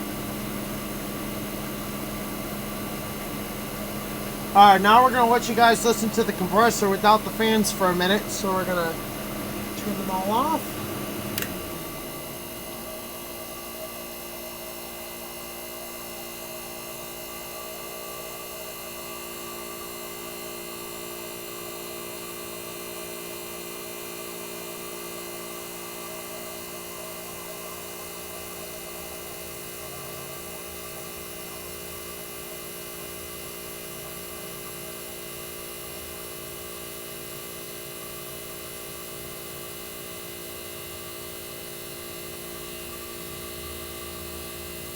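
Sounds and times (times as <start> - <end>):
air conditioner compressor hum: 0.0 - 44.9.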